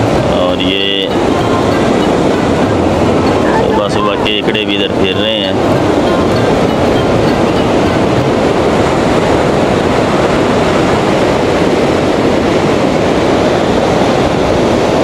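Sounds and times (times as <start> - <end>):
sea surf washing up beach: 0.0 - 15.0
wind buffeting microphone: 0.0 - 15.0.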